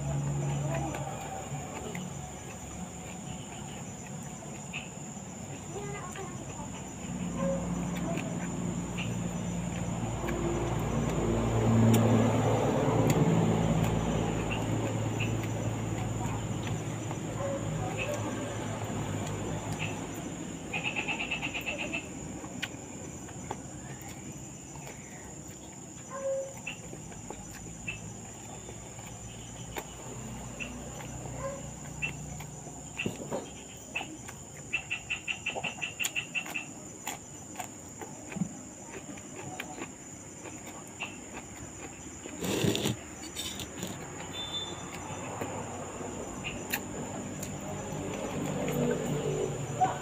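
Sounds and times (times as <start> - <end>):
insect chirping in trills: 0.0 - 50.0
man chewing and eating: 0.0 - 50.0.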